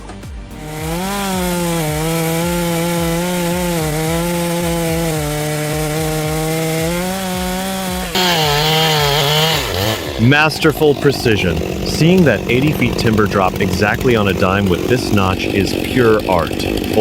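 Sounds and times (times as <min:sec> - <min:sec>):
chainsaw cutting tree trunk: 0:00.0 - 0:17.0.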